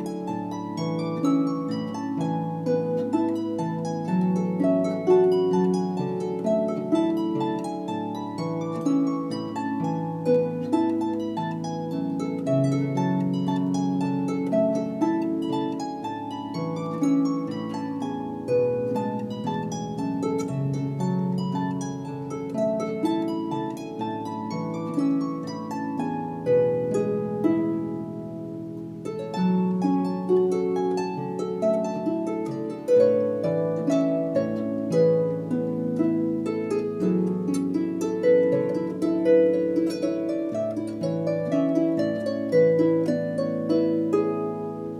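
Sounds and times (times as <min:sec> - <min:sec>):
plucked-string instrumental music: 0:00.0 - 0:44.9.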